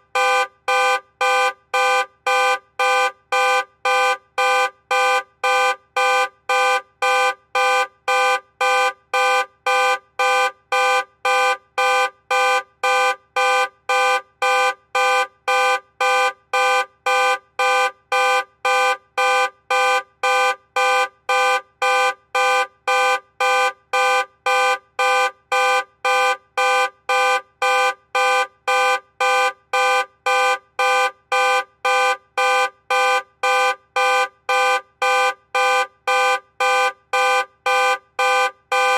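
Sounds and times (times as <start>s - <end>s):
car alarm honking horn: 0.1s - 38.9s.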